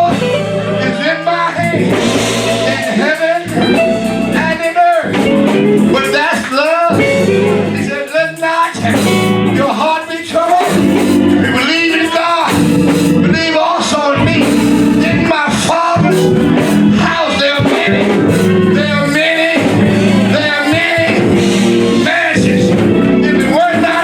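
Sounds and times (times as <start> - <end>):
guitar: 0.0 - 24.0
person singing: 0.0 - 24.0.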